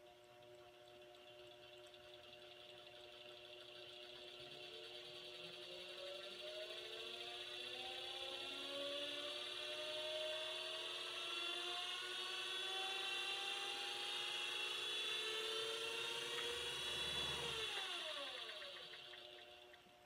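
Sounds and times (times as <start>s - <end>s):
lathe motor whine: 0.0s - 20.0s.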